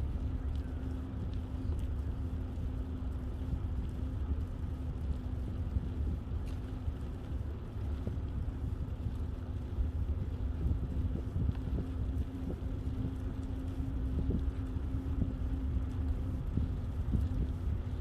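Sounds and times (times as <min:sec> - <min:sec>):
faint steady hum: 0:00.0 - 0:18.0
wind buffeting microphone: 0:00.0 - 0:18.0.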